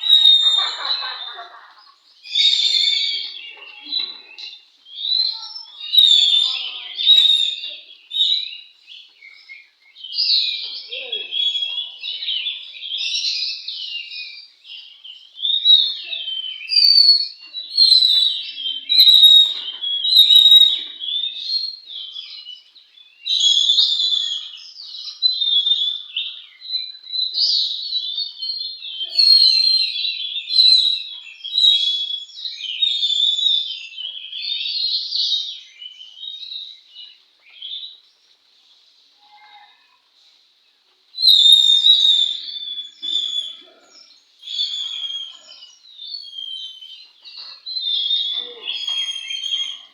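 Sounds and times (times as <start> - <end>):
magpie-robin singing: 0.0 - 38.1, 41.2 - 49.9.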